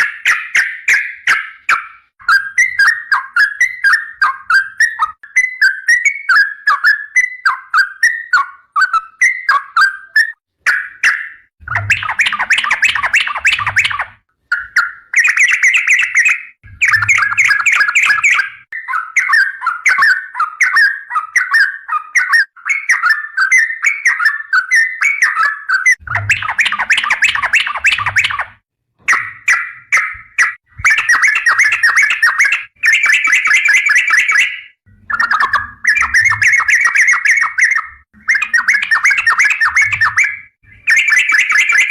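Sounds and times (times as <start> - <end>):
bird warbling song: 0.0 - 41.9.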